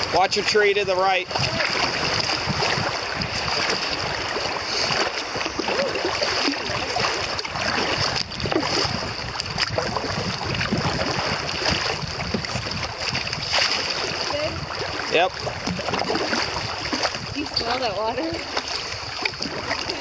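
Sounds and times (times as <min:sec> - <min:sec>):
paddle splashes: 0:00.0 - 0:20.0
river water rushing and splashing: 0:00.0 - 0:20.0.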